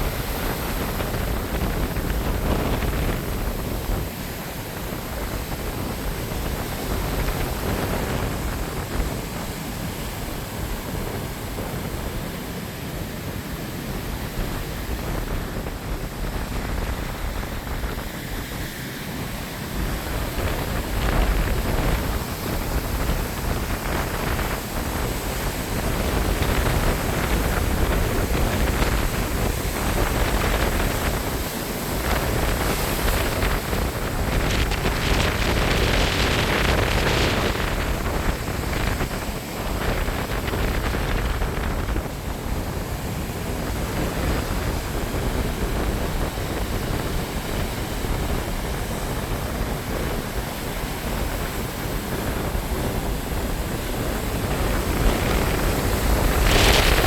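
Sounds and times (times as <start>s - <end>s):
ocean surf: 0.0s - 57.0s
wind buffeting microphone: 0.0s - 57.0s.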